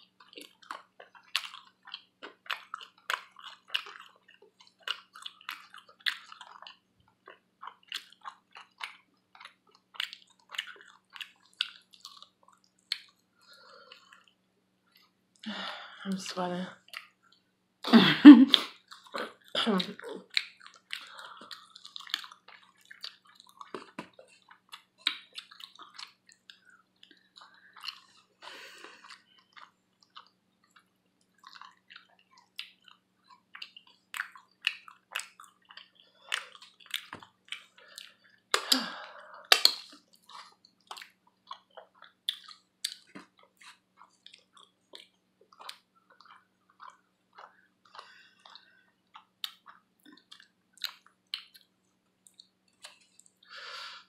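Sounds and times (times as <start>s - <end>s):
chewing and lip-smacking: 0.0s - 15.2s, 16.8s - 17.5s, 18.5s - 53.6s.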